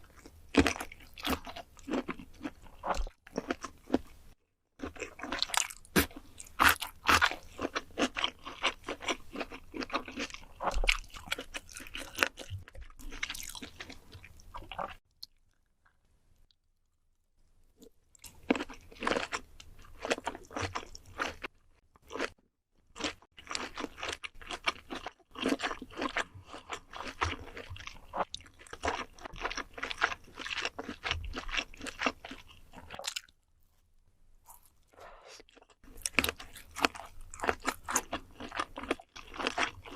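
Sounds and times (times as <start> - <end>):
person chewing crunchy food: 0.0 - 16.6, 17.8 - 33.4, 34.4 - 39.9.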